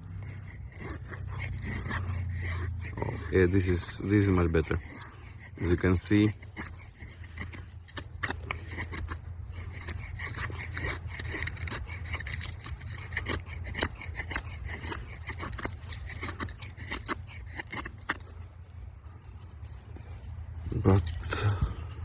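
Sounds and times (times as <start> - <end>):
knife shaving wood: 0.0 - 22.0.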